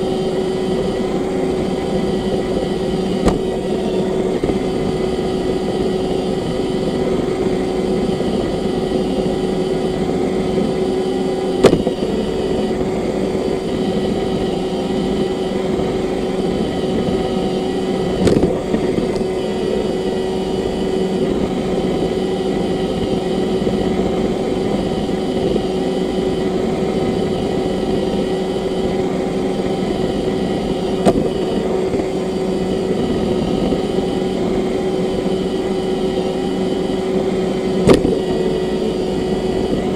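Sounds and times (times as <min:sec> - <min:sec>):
robot vacuum motor humming: 0:00.0 - 0:39.9.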